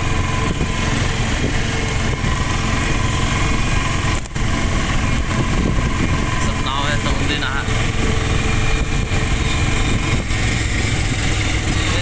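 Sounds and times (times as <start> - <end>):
road noise: 0.0 - 12.0
small engine running: 0.0 - 12.0.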